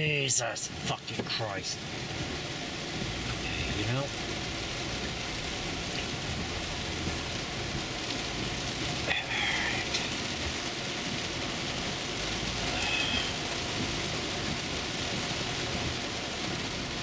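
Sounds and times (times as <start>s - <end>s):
heavy rain drumming on car roof: 0.0s - 17.0s
windshield wiper sweeping: 0.8s - 17.0s.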